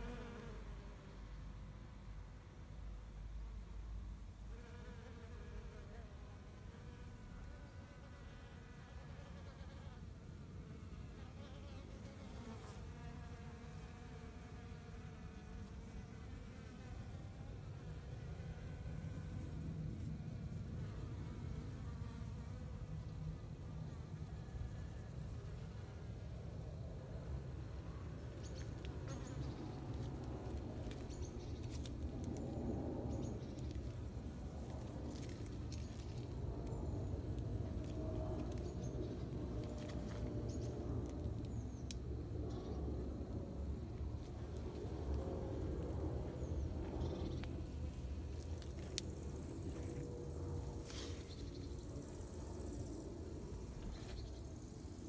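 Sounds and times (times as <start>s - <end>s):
insects buzzing: 4.2s - 55.0s.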